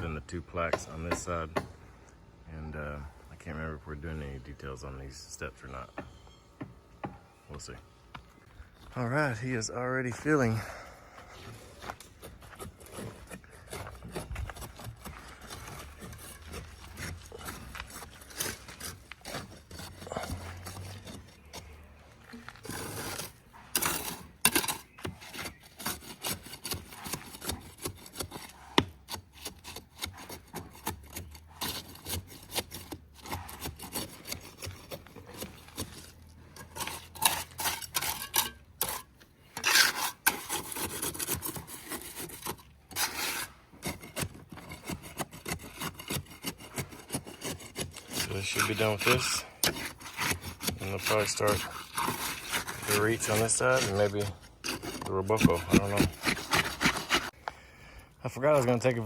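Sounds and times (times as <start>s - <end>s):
hand tool scraping masonry: 0.0s - 1.9s, 2.6s - 57.6s, 58.3s - 59.0s.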